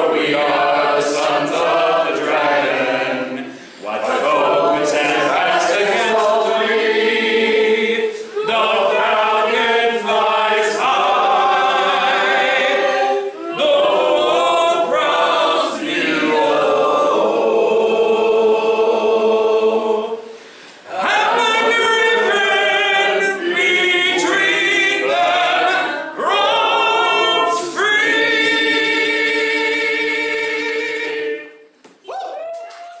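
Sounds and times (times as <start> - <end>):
group of voices singing: 0.0 - 31.7.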